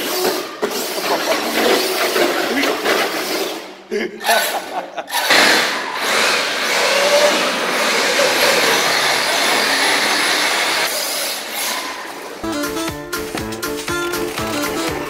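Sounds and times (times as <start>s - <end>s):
remote control cars rushing: 0.0s - 12.4s.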